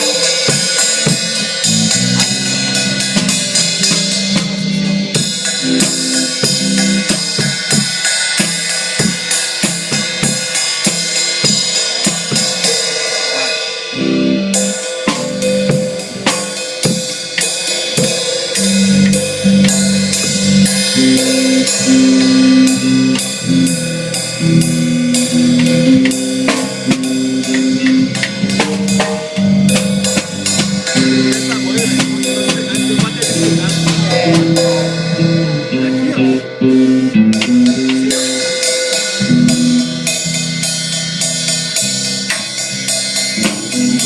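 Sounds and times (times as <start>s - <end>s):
bass line: 0.0s - 44.0s
drum kit beat: 0.0s - 44.0s.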